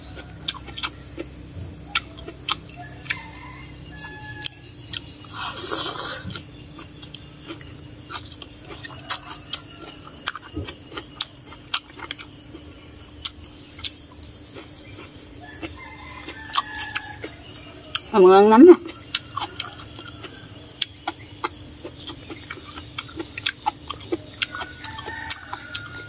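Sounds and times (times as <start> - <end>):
wet mouth clicks chewing: 0.4 - 1.3, 1.9 - 3.3, 4.4 - 18.1, 18.8 - 26.0.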